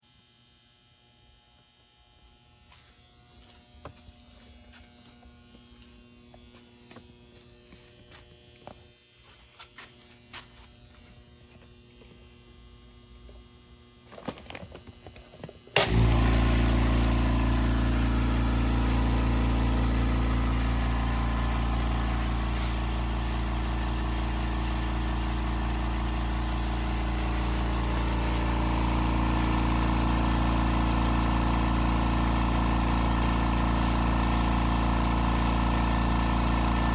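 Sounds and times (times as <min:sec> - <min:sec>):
air compressor motor hum: 0:01.6 - 0:36.9.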